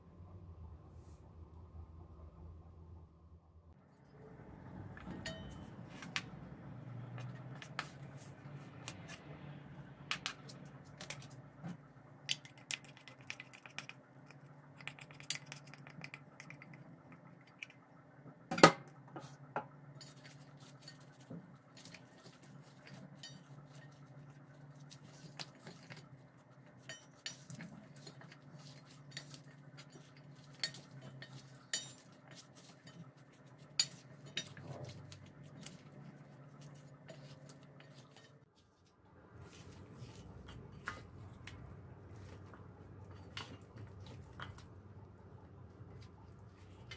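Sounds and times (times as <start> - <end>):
low steady hum: 0.0 - 46.9.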